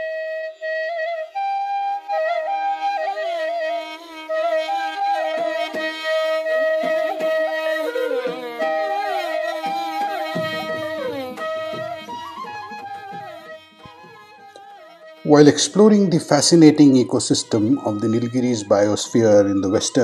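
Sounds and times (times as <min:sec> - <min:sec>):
instrumental melody with sliding notes: 0:00.0 - 0:20.0.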